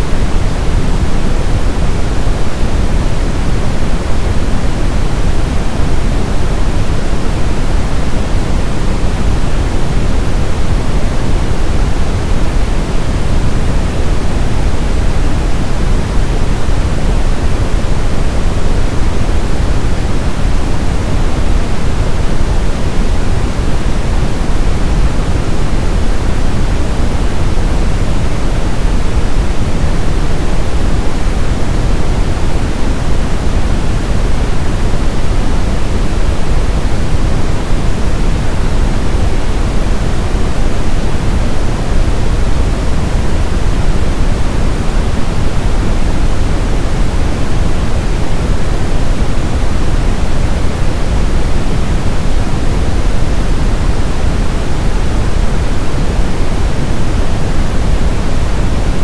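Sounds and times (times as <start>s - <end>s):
brown noise rumble: 0.0s - 59.0s.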